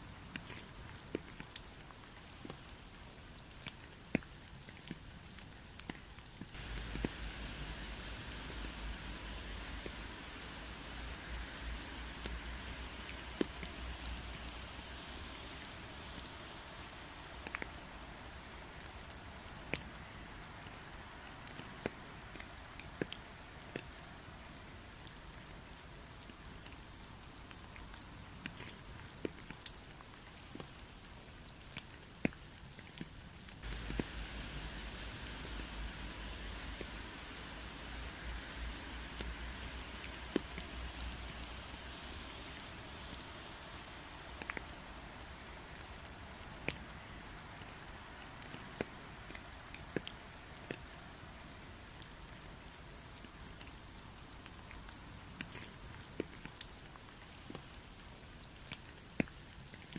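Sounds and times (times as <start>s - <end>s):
raindrops ticking: 0.0s - 59.9s
steady rain hissing: 0.0s - 59.9s.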